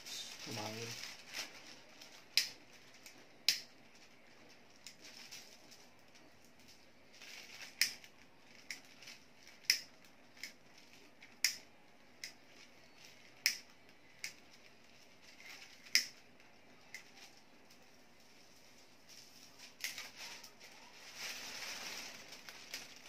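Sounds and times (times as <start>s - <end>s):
paper crinkling: 0.0s - 11.2s, 12.4s - 23.0s.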